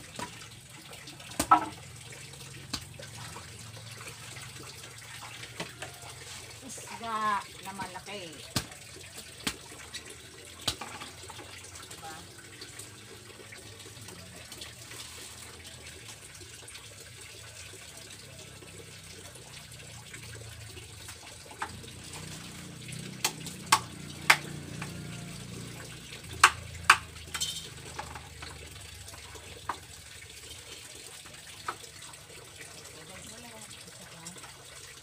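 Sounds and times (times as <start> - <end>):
running water: 0.0 - 35.0.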